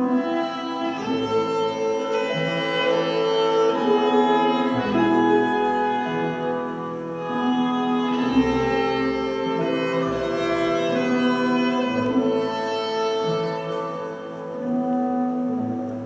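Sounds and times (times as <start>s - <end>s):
orchestral strings sustained notes: 0.0s - 16.0s.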